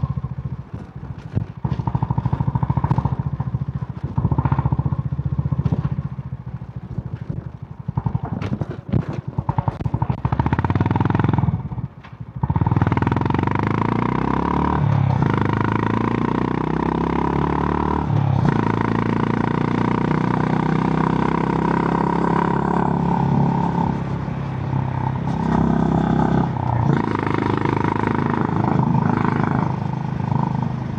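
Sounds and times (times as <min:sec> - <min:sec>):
motorcycle engine: 0:00.0 - 0:30.9.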